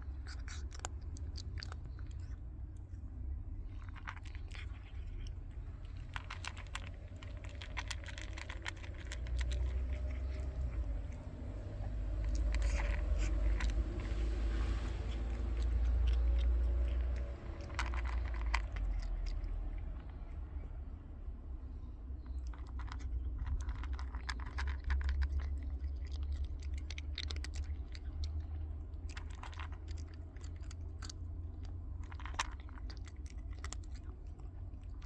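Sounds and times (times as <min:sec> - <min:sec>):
cat crunching food: 0:00.0 - 0:35.0
steady low rumble: 0:00.0 - 0:35.0.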